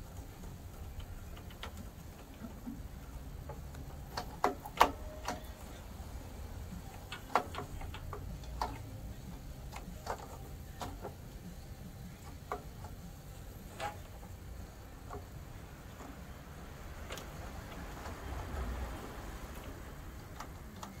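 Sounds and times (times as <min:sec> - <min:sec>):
plastic parts clicking on metal: 0:00.0 - 0:21.0
steady low hum: 0:00.0 - 0:21.0.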